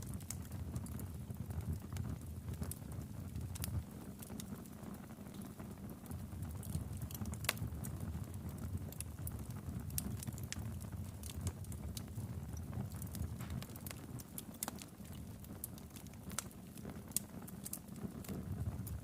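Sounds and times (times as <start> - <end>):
fire rumbling: 0.0 - 19.0
wood crackling and popping: 0.0 - 19.0.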